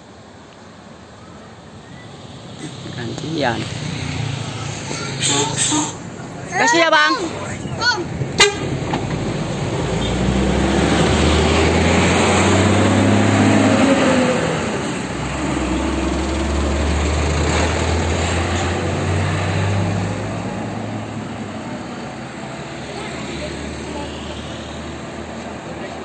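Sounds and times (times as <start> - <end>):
bus diesel engine accelerating: 0.0 - 26.0
truck diesel engine droning past: 1.9 - 6.4, 8.1 - 26.0.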